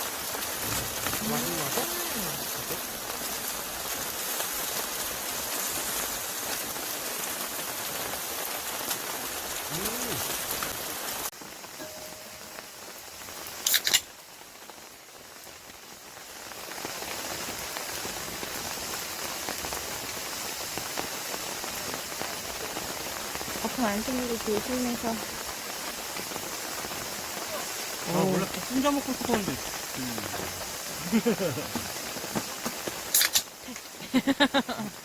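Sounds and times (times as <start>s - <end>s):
rain hissing: 0.0s - 35.0s.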